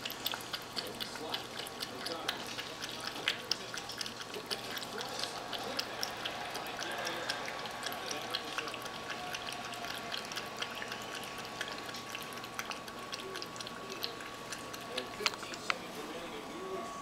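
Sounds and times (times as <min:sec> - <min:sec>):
cat lapping water: 0:00.0 - 0:16.8.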